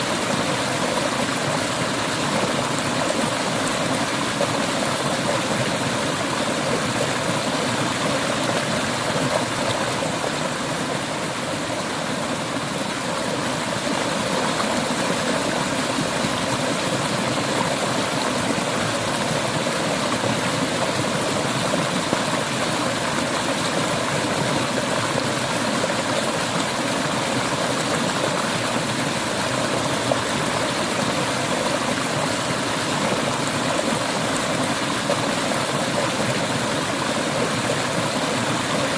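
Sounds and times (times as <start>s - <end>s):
river water babbling over stones: 0.0s - 38.9s.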